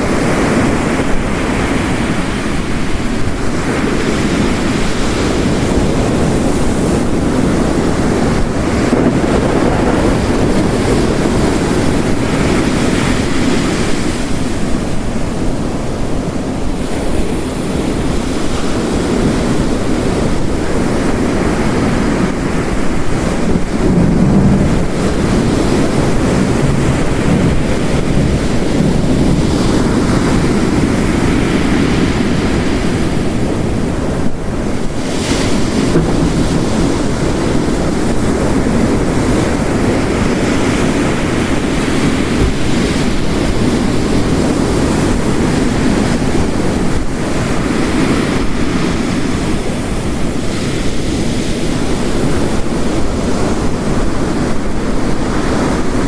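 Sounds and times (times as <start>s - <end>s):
heavy rain: 0.0s - 56.0s
ocean waves crashing: 0.0s - 56.0s.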